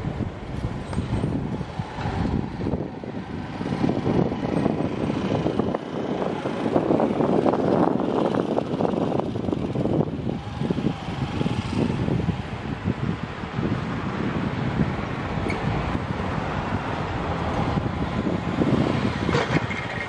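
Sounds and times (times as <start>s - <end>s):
vehicle rumbling with rattle: 0.0s - 20.0s.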